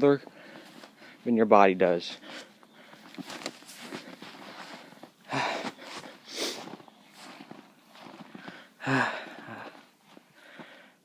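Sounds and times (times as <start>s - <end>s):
footsteps crunching in snow: 0.2s - 1.4s, 2.2s - 10.8s
person breathing hard: 0.3s - 1.2s, 2.2s - 7.5s, 8.2s - 11.0s.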